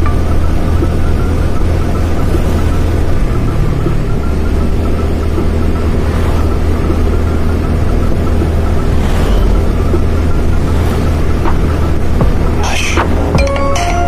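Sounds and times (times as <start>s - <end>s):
scooter engine rumble: 0.0s - 14.0s.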